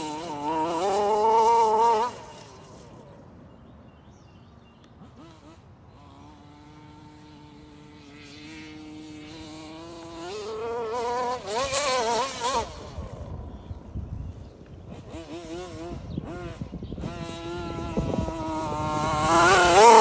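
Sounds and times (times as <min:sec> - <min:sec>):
rc car engine buzzing: 0:00.0 - 0:03.4, 0:04.9 - 0:20.0.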